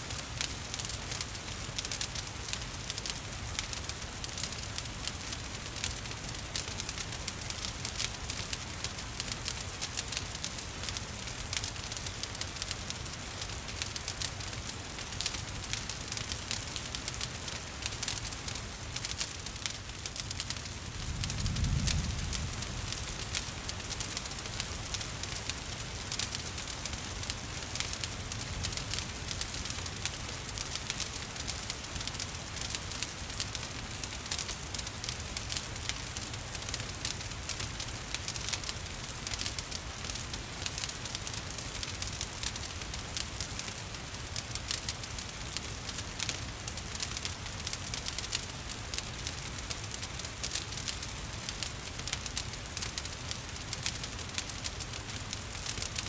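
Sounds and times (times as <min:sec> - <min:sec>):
wood fire crackling and popping: 0:00.0 - 0:56.0
rain falling: 0:00.1 - 0:56.0.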